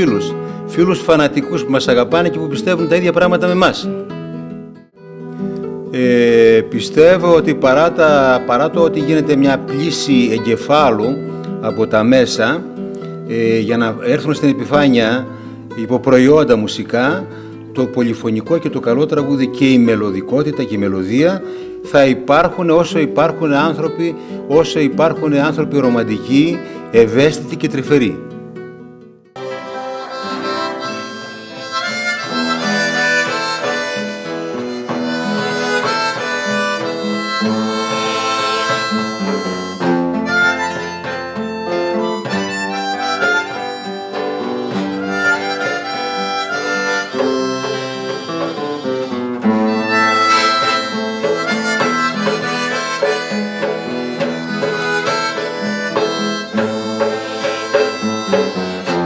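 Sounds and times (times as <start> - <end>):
harmonica melody: 0.0 - 28.1, 29.4 - 59.0
acoustic guitar accompaniment: 0.0 - 59.0.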